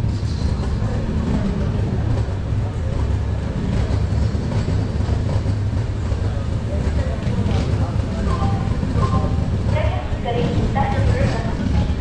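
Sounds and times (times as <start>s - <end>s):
faint voices: 0.0s - 12.0s
train rumble: 0.0s - 12.0s.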